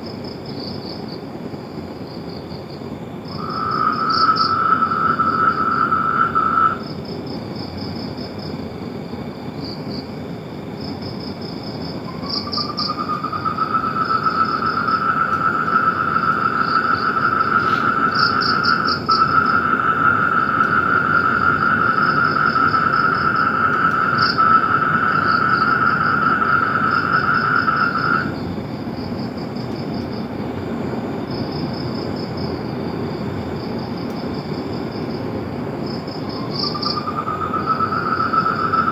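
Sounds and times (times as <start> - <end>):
frogs trilling: 2.6 - 8.5, 9.6 - 30.4, 31.2 - 38.9.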